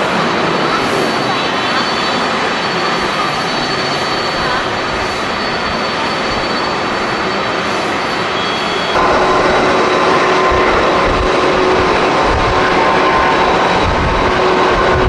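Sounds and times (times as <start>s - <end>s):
jet engine whine: 0.0s - 15.0s
jet engines running: 0.0s - 15.0s.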